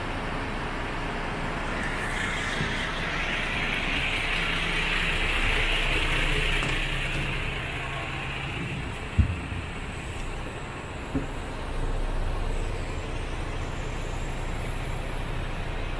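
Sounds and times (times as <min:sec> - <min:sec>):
diesel engine idling: 0:00.0 - 0:15.9.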